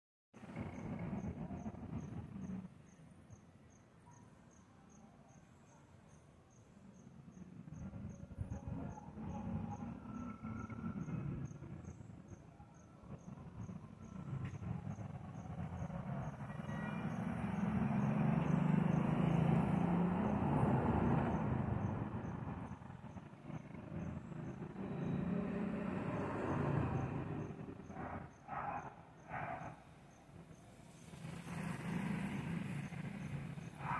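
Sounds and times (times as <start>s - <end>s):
cricket chirping: 0.6s - 33.9s.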